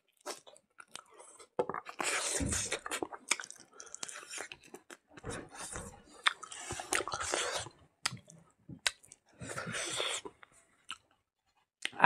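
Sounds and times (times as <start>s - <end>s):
man chewing and smacking: 0.1s - 11.0s.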